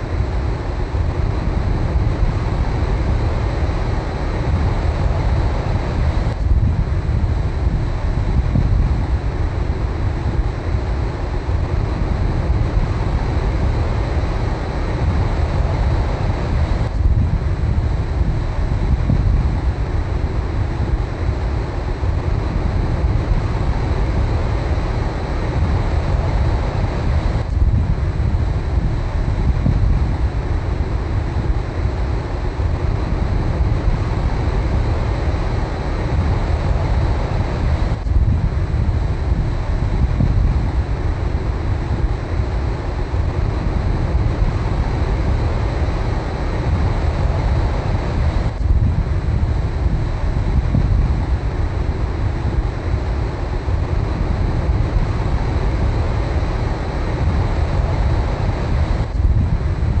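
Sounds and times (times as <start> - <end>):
wind buffeting microphone: 0.0 - 60.0.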